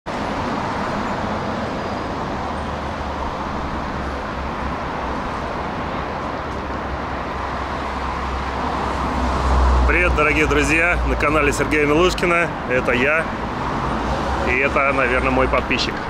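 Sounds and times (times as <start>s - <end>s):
city street traffic: 0.1s - 16.0s.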